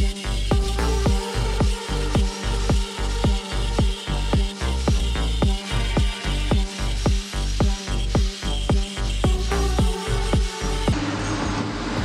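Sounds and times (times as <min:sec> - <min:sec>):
kick drum beat: 0:00.0 - 0:10.6.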